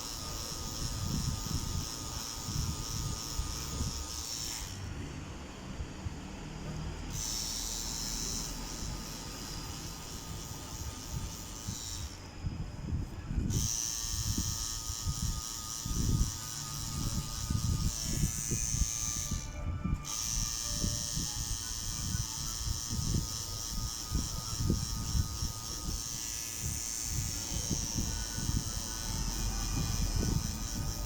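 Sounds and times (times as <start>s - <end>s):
tattoo machine buzzing: 0.0s - 31.0s.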